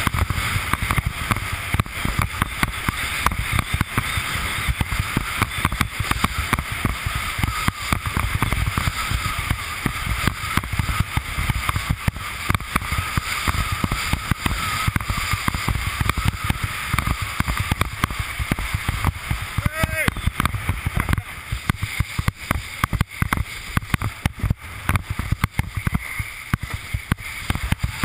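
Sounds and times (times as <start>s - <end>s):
spray hissing: 0.0s - 28.0s
wind buffeting microphone: 0.0s - 28.0s.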